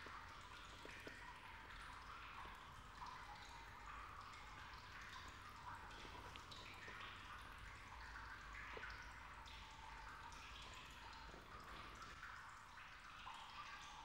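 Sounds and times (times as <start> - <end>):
faint water dripping: 0.0 - 14.0.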